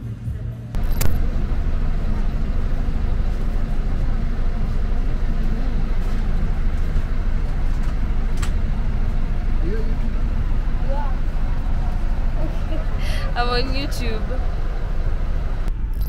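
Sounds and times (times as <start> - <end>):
bus engine rumbling: 0.7 - 16.0
road noise: 0.8 - 16.0.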